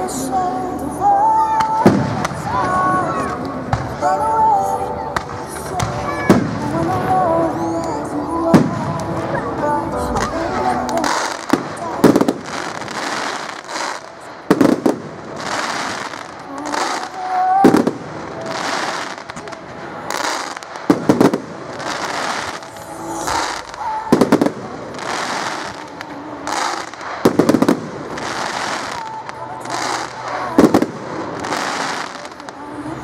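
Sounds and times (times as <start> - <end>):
fireworks hissing and crackling: 0.0 - 33.0
firework bangs: 1.6 - 4.2, 5.2 - 7.4, 8.5 - 9.3, 10.0 - 32.9.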